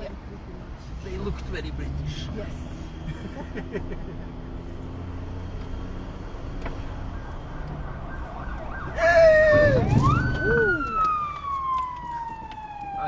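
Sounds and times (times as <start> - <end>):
car driving road noise: 0.0 - 13.0.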